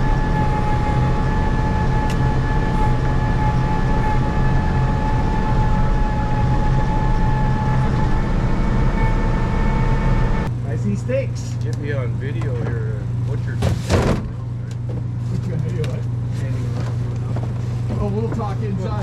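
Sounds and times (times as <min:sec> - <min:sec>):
engine running with high whine: 0:00.0 - 0:19.0.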